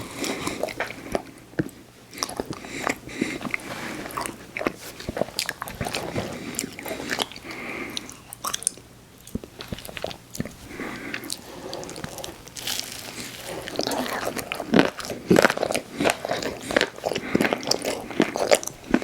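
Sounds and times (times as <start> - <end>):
eating crunches and chewing: 0.0 - 19.0.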